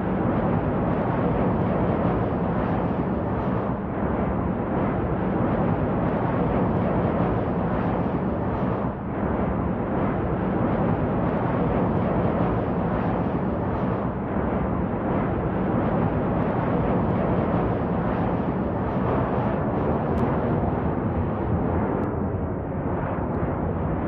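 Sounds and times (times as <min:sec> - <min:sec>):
jet airliner rumble: 0:00.0 - 0:24.0.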